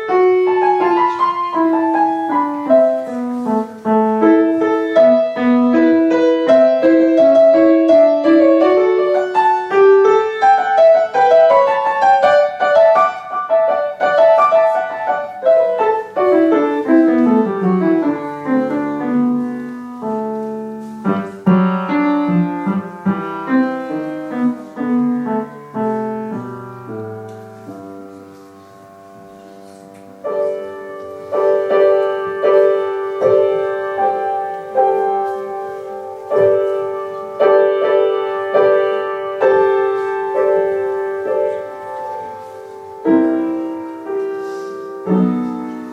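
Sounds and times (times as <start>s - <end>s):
piano playing: 0.0s - 45.9s.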